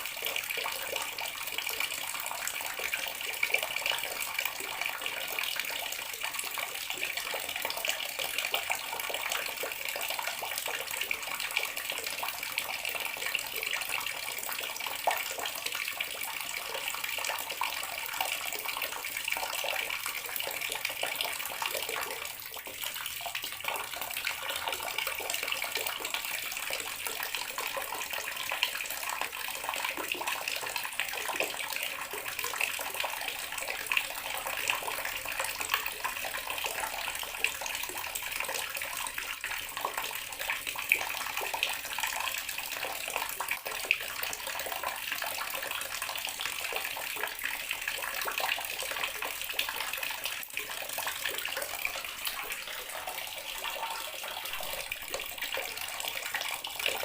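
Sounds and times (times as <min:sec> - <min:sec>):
water tap running into basin: 0:00.0 - 0:57.0.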